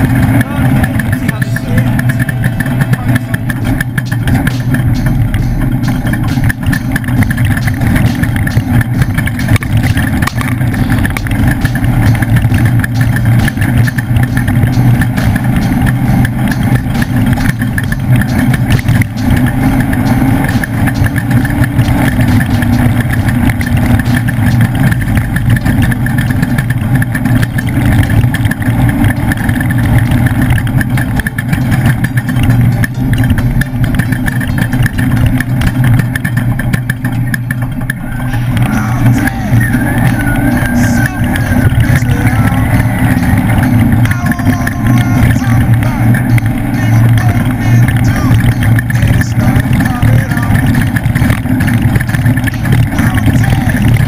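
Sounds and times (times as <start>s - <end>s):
race truck engine running: 0.0s - 54.0s.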